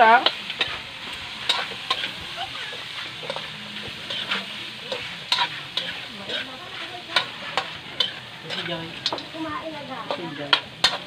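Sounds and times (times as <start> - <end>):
chicken frying in oil: 0.0 - 11.0
spatula scraping and clinking on pan: 0.0 - 11.0.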